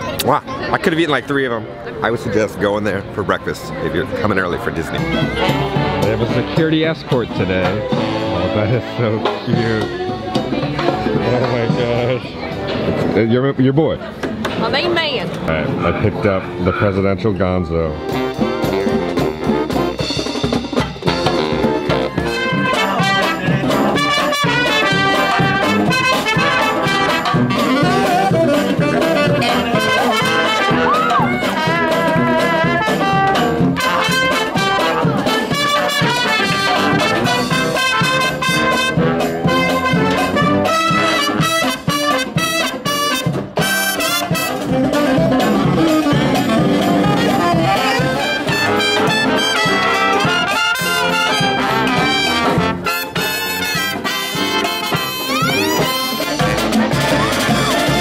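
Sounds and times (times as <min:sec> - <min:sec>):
brass marching band playing: 0:00.0 - 0:13.2, 0:17.8 - 0:58.0.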